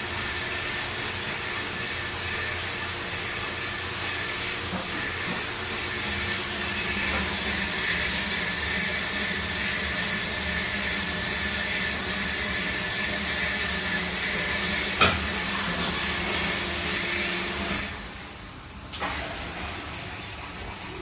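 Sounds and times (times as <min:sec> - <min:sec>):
dishwasher running: 0:00.0 - 0:21.0.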